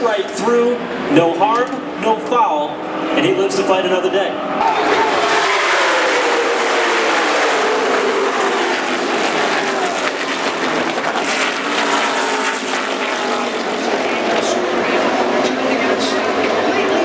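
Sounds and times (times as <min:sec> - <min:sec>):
race cars passing at full speed: 0:00.0 - 0:17.0.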